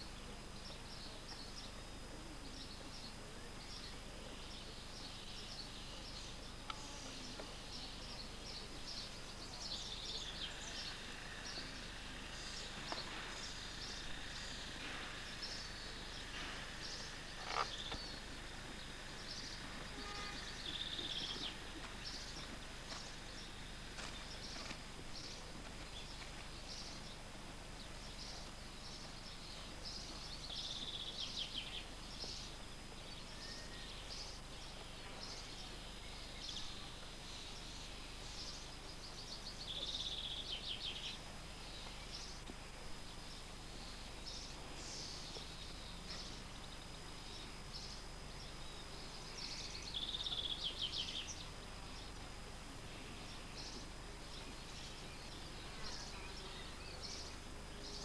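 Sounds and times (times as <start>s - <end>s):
birds chirping: 0.0s - 58.0s
steady hiss: 0.0s - 58.0s.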